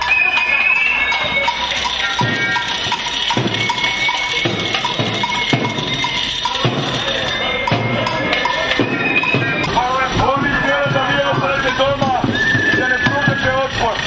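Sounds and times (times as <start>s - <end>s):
din of marching crowd: 0.0s - 14.0s
metallic percussion clanging: 0.0s - 14.0s.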